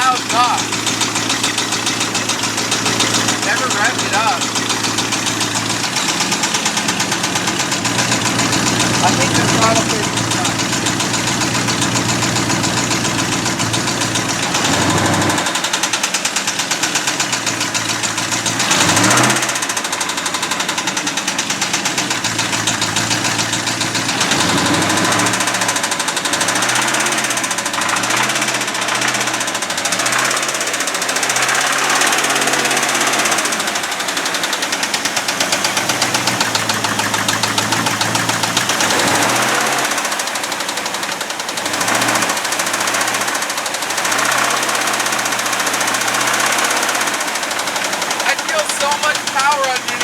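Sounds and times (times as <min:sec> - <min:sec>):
knocking engine revving: 0:00.0 - 0:50.0.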